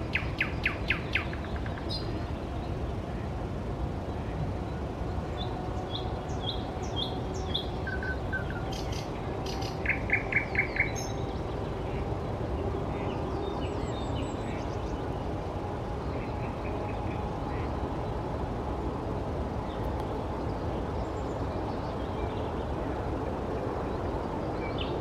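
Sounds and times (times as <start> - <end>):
songbirds singing: 0.0 - 25.0.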